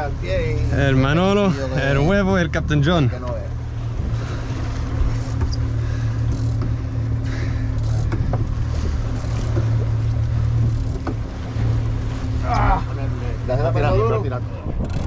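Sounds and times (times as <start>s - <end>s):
boat engine humming: 0.0s - 15.0s
wind and water hiss: 0.0s - 15.0s.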